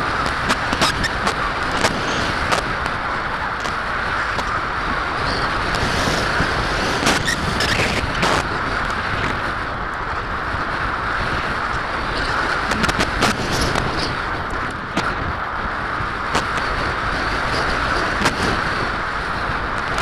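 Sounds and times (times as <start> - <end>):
wind rush: 0.0 - 20.0.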